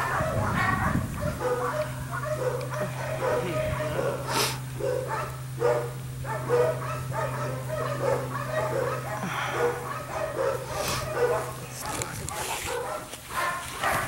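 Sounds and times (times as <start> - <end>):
low hum: 0.0 - 12.1
puppy barking high-pitched: 0.0 - 14.0.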